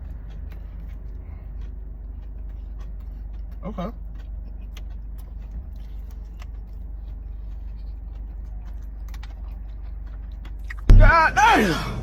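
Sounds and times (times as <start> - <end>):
chewing mouth clicks: 0.0 - 10.9
steady low hum: 0.0 - 12.0.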